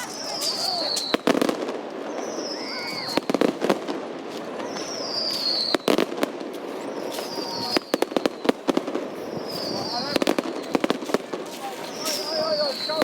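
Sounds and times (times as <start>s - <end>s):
crowd hubbub: 0.0s - 13.0s
firework bangs: 0.0s - 13.0s
whistling fireworks: 0.0s - 13.0s.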